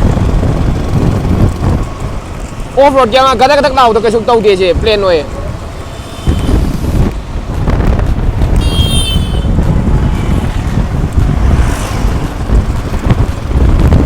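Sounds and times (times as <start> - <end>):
low vehicle rumble: 0.0 - 14.0
wind buffeting microphone: 0.0 - 14.0.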